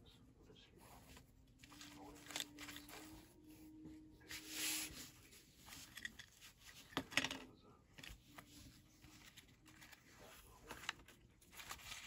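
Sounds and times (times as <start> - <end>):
cloth and paper rustling: 0.7 - 12.0.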